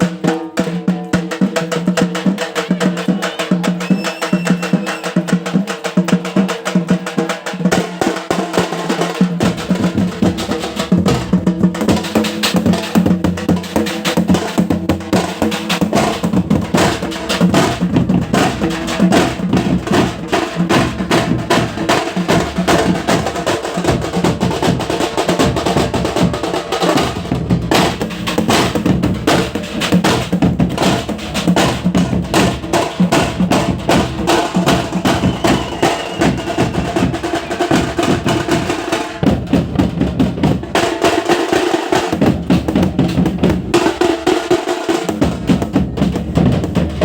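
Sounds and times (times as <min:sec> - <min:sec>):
fast dense drumming: 0:00.0 - 0:47.0.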